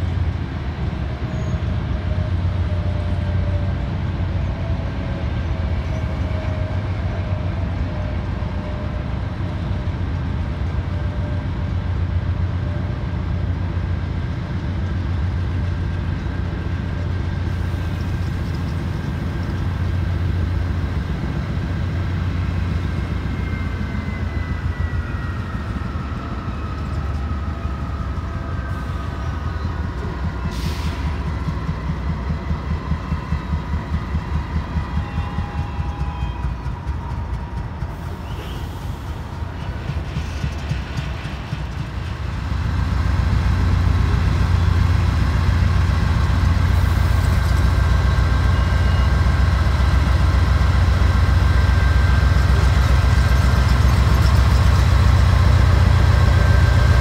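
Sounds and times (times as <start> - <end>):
diesel locomotive engine rumble: 0.0 - 57.0.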